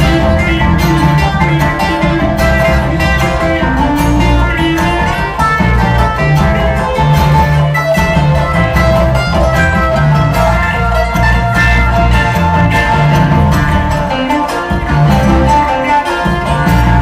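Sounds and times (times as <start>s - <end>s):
bluegrass string band playing: 0.0s - 17.0s.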